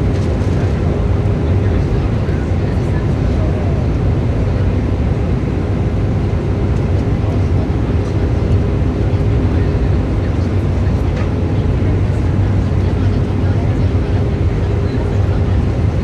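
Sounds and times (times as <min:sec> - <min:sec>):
jet engines: 0:00.0 - 0:16.0.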